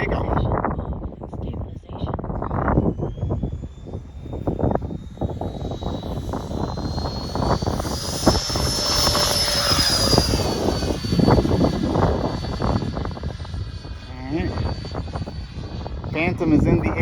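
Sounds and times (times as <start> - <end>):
electric ducted-fan motor whining: 0.0 - 17.0
wind buffeting microphone: 0.0 - 17.0.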